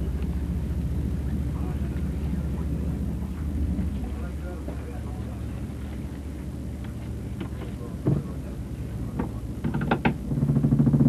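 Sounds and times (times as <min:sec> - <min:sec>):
low drone: 0:00.0 - 0:09.6
boat engine running: 0:00.0 - 0:11.0.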